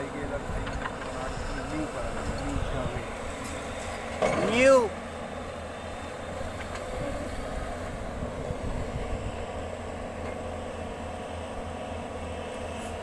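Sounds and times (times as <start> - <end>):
construction machine engine rumble: 0.0 - 13.0.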